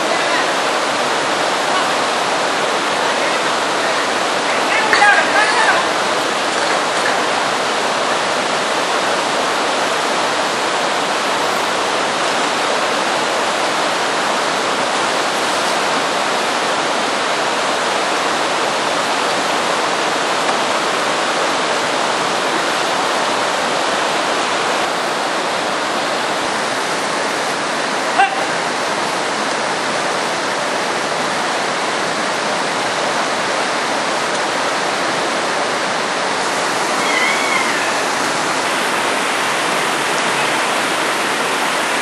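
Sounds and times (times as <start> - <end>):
river rushing over rocks: 0.0 - 42.0.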